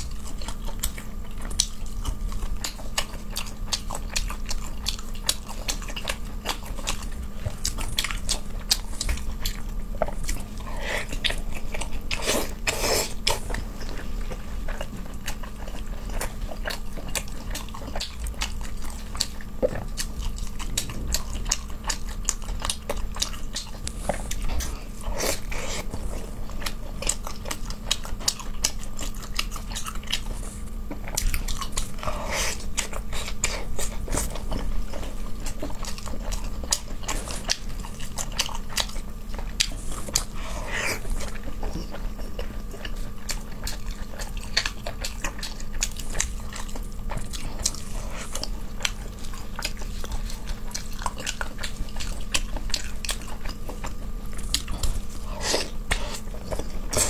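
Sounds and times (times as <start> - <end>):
chewing fish: 0.0 - 57.0.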